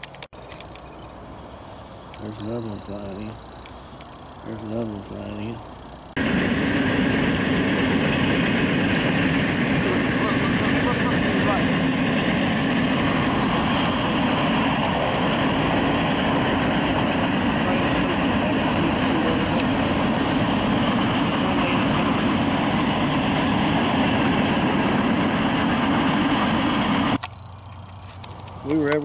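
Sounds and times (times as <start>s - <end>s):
passing train rumbling: 0.0s - 29.0s.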